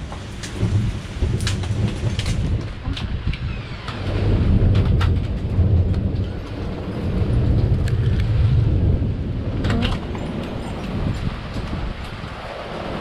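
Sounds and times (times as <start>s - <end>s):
deep low rumble: 0.0s - 12.4s
raindrops tapping close by: 0.0s - 13.0s
steady rain: 0.0s - 13.0s.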